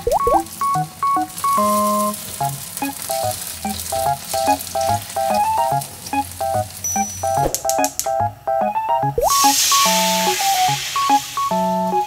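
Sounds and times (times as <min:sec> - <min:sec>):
tofu sizzling in oil: 0:00.0 - 0:07.5, 0:09.2 - 0:12.0
light background music: 0:00.0 - 0:12.0.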